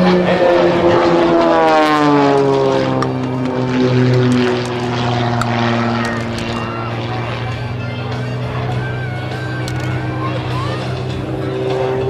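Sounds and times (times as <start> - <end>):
propeller plane droning in flight: 0.0 - 12.0.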